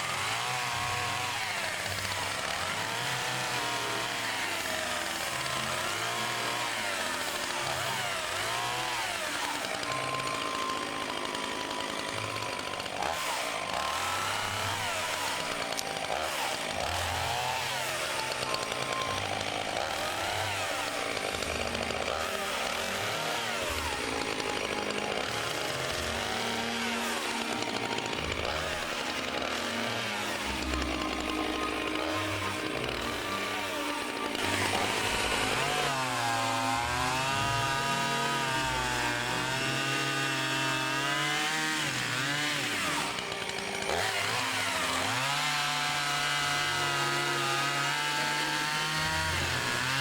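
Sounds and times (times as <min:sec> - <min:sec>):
chainsaw cutting log: 0:00.0 - 0:50.0.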